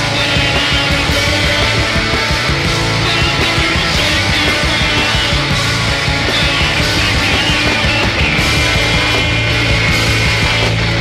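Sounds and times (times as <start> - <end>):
math rock band playing: 0.0 - 11.0.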